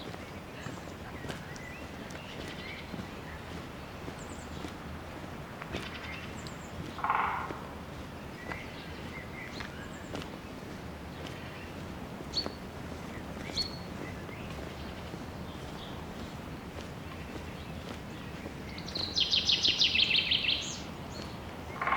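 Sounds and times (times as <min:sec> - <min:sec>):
footsteps on forest trail: 0:00.0 - 0:21.9
small birds chirping: 0:00.0 - 0:21.9.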